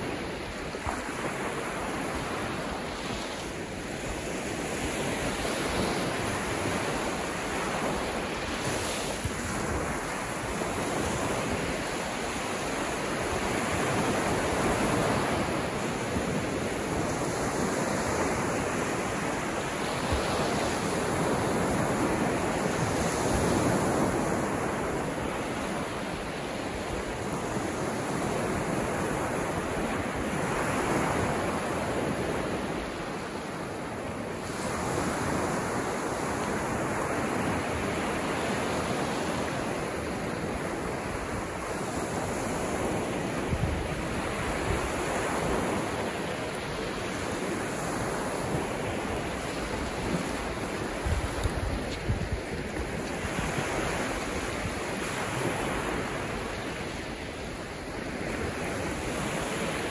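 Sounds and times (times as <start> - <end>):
waves washing up on beach: 0.0 - 59.9.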